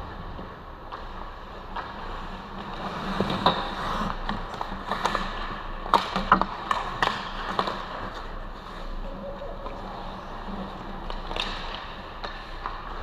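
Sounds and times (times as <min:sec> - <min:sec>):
skates scraping ice: 0:00.0 - 0:13.0
hockey sticks and puck clacking: 0:00.3 - 0:13.0.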